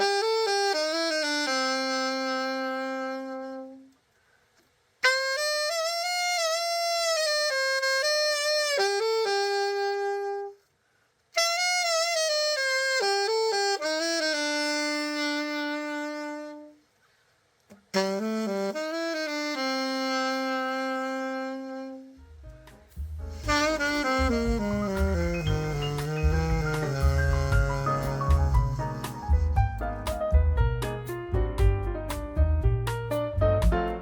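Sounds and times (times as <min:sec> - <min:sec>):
alto saxophone melody: 0:00.0 - 0:04.3, 0:05.0 - 0:10.7, 0:11.3 - 0:17.0, 0:17.7 - 0:31.4.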